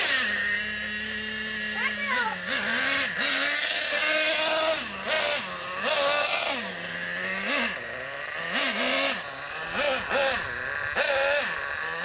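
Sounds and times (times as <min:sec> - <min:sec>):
small nitro engine revving: 0:00.0 - 0:12.0.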